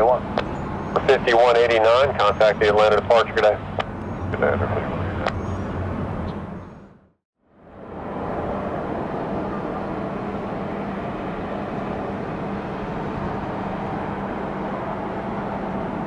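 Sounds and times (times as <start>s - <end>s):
jet engines rushing: 0.0s - 6.6s, 7.6s - 16.0s.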